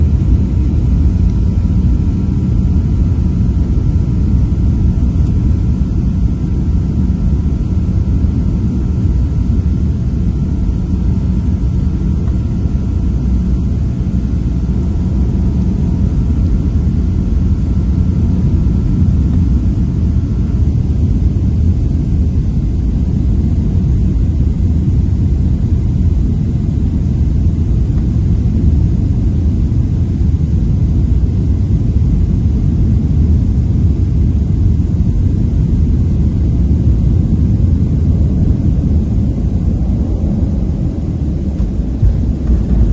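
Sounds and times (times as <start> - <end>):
airplane cabin engine rumble: 0.0 - 42.9
faint whine tones: 0.0 - 42.9.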